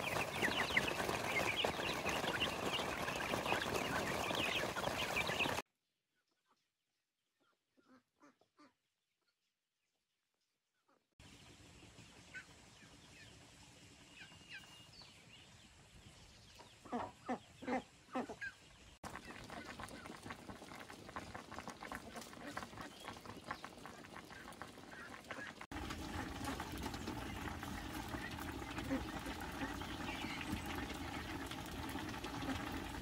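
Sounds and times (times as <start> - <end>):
small birds chirping: 0.0 - 5.6, 11.2 - 32.8.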